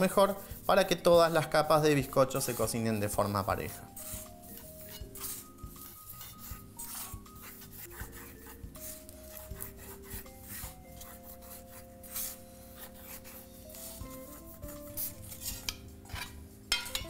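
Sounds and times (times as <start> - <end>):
paper rubbing and rustling in pans: 0.0 - 16.7
soft background music: 0.0 - 17.0.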